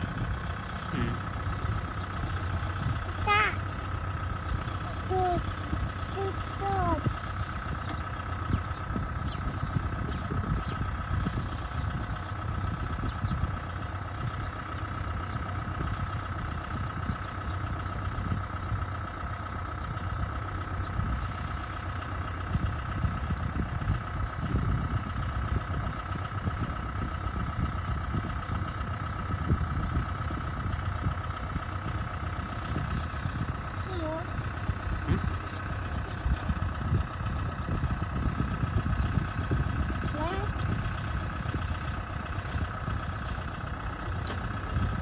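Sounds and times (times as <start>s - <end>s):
machine rumbling and whining: 0.0s - 45.0s.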